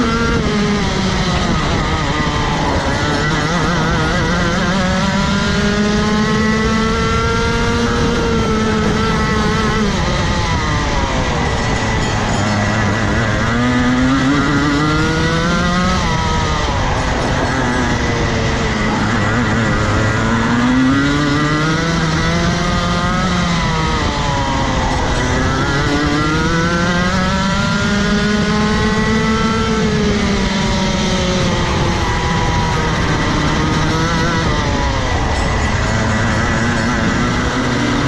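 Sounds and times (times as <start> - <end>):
kart engine revving: 0.0 - 38.0.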